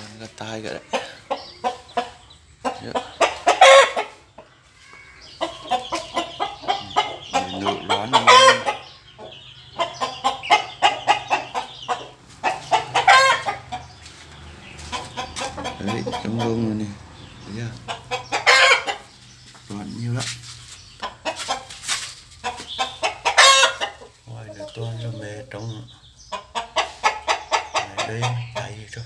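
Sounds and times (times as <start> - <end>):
loud long chicken calls: 0.0 - 19.6, 20.8 - 28.8
chickens clucking: 0.0 - 29.0.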